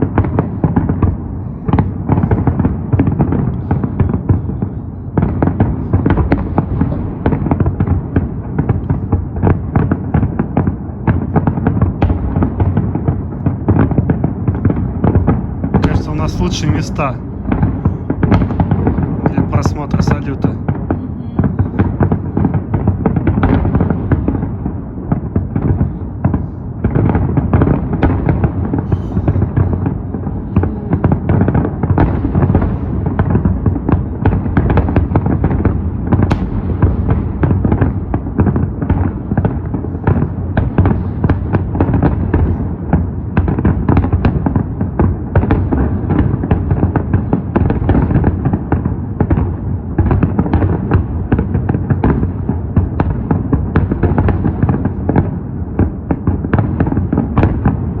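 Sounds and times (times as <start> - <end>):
fireworks booming and cracking: 0.0 - 58.0.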